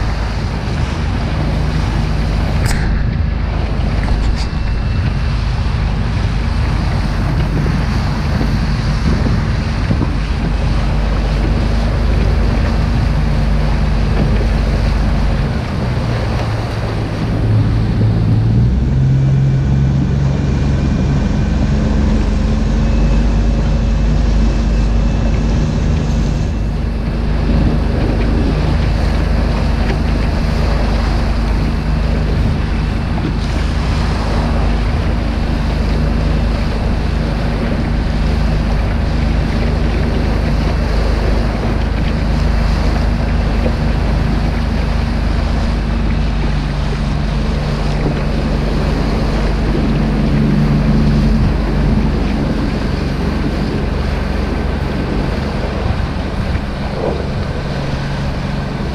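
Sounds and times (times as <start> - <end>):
boat engine running: 0.0 - 58.9
water rushing along hull: 0.0 - 58.9
wind buffeting microphone: 0.0 - 58.9.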